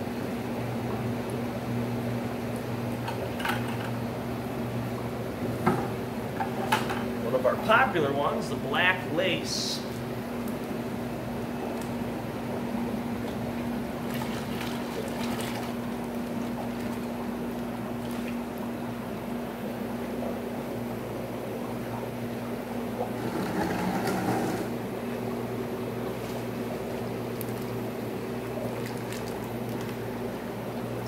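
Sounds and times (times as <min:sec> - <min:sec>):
bubbling tank water: 0:00.0 - 0:31.0
pumps and filters humming: 0:00.0 - 0:31.0.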